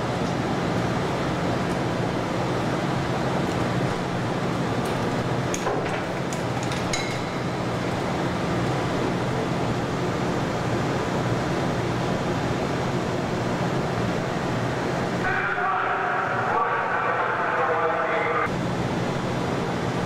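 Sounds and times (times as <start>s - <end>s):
ventilation and machinery hum: 0.0s - 20.0s.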